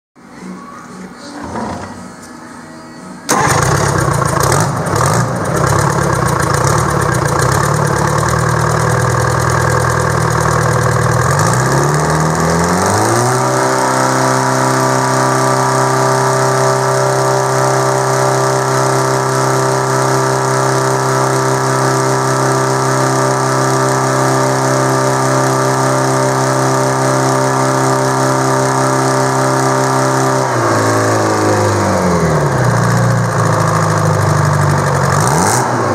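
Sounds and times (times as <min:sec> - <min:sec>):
diesel engine starting and running: 0:00.3 - 0:35.9.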